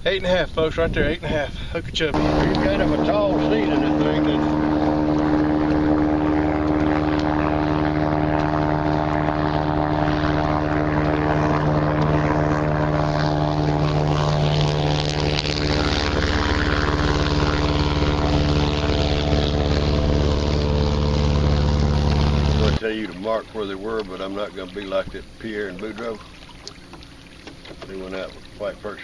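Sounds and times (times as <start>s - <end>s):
propeller engine drone: 1.6s - 29.0s.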